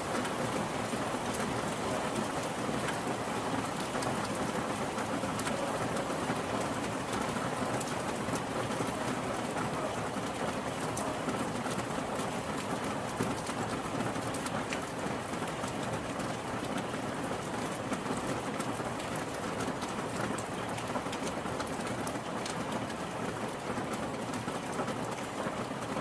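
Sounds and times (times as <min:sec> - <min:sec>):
steady rainfall: 0:00.0 - 0:26.0
raindrops ticking: 0:00.1 - 0:26.0.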